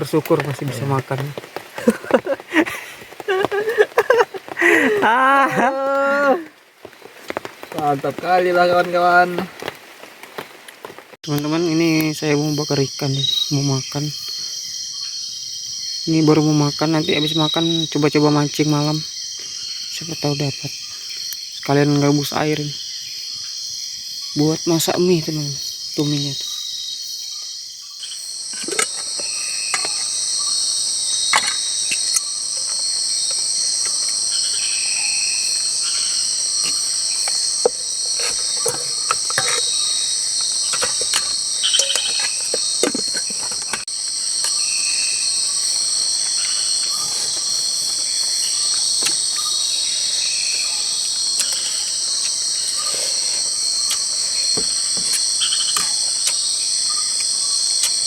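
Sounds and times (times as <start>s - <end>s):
insect chirps: 0.0s - 58.0s
insects buzzing: 0.0s - 58.0s.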